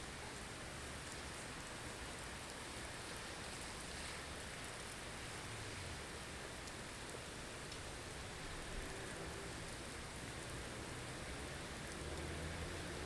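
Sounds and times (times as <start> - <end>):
hiss of wind-driven snow: 0.0 - 13.0.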